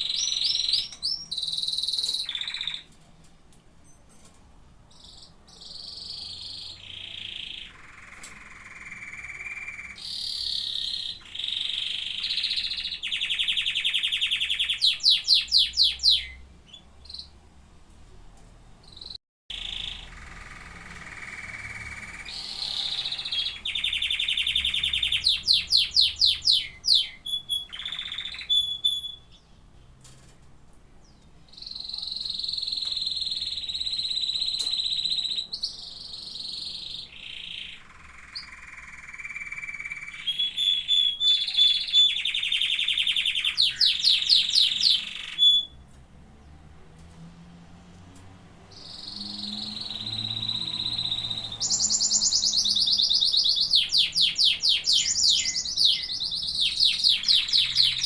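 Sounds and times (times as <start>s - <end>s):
canaries singing trills: 0.0s - 17.5s, 18.8s - 47.1s, 47.9s - 58.0s.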